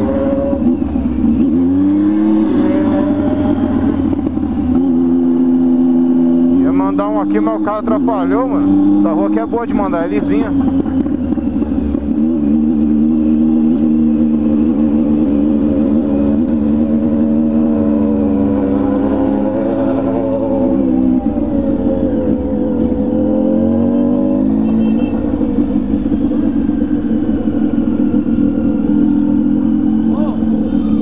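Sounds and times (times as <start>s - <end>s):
motorcycle accelerating: 0.0s - 31.0s.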